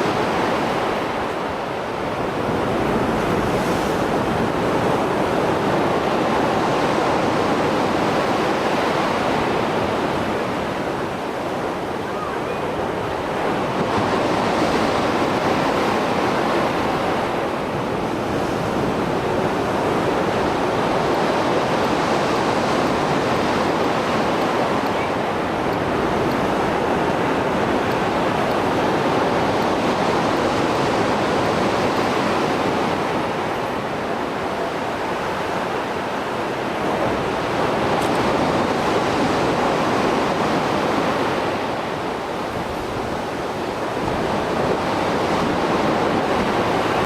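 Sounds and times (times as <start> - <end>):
waves breaking: 0.0 - 47.0.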